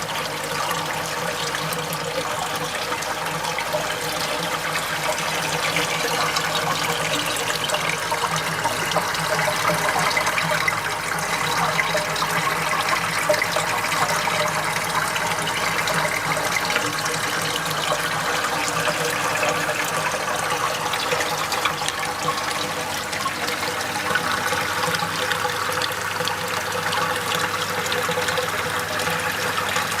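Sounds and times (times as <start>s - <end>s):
water running and splashing: 0.0s - 30.0s.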